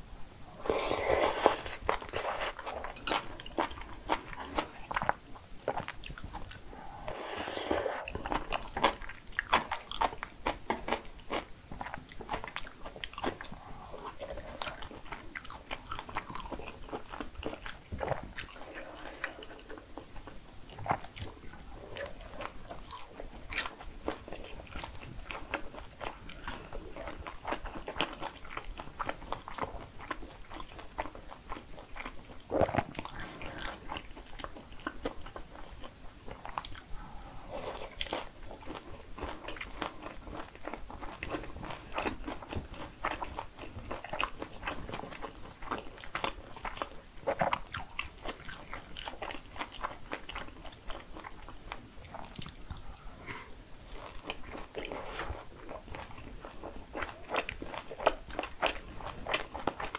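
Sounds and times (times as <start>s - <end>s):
person chewing noodles: 0.5s - 59.9s.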